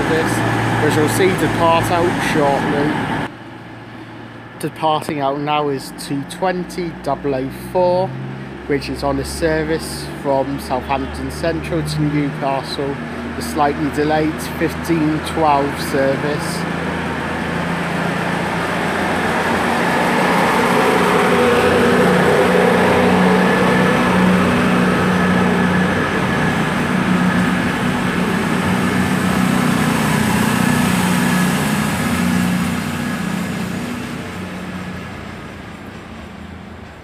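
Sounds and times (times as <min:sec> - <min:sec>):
diesel train departing: 0:00.0 - 0:37.0.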